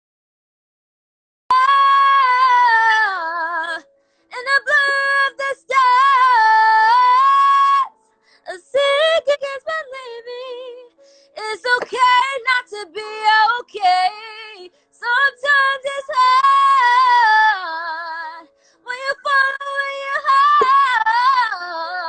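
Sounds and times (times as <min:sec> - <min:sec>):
woman singing unaccompanied: 0:01.5 - 0:07.9, 0:08.5 - 0:22.0.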